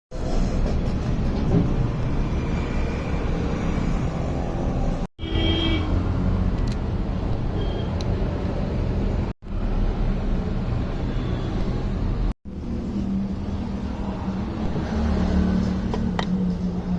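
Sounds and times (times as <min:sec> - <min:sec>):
vehicle engine and road rumble: 0:00.1 - 0:16.9.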